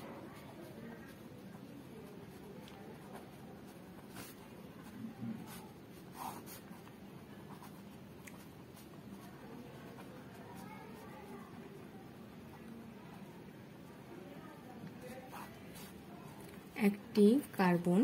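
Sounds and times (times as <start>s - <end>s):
pen scratching on paper: 0.0s - 13.2s, 14.9s - 16.1s.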